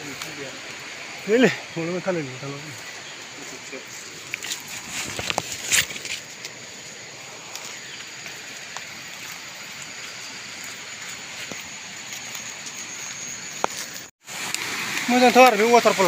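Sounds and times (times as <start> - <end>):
leaves and twigs rustling: 0.0 - 16.0
steady outdoor hiss: 0.0 - 16.0.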